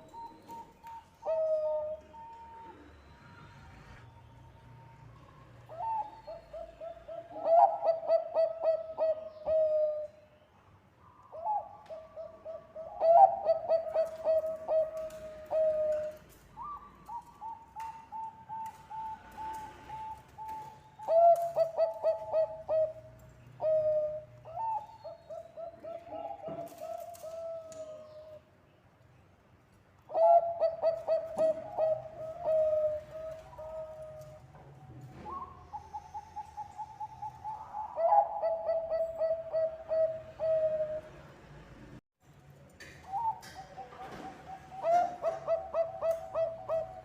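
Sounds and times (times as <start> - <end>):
dove cooing: 0.0 - 4.0, 5.6 - 10.2, 11.3 - 28.4, 30.1 - 41.2, 43.1 - 47.0.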